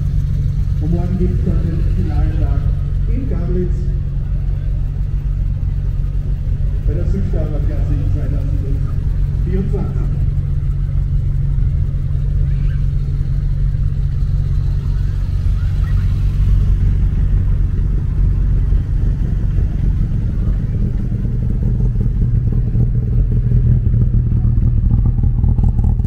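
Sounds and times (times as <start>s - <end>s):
car engines idling: 0.0s - 26.0s.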